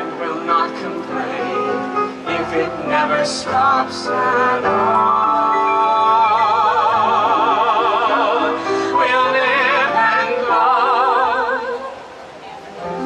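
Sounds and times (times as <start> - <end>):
man and woman singing duet: 0.0 - 12.2.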